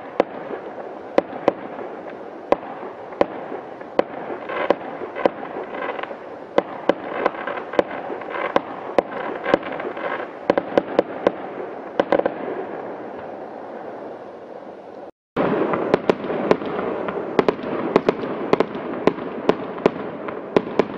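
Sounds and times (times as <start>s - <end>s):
fireworks bangs: 0.0s - 20.9s
fireworks crackle: 0.0s - 20.9s.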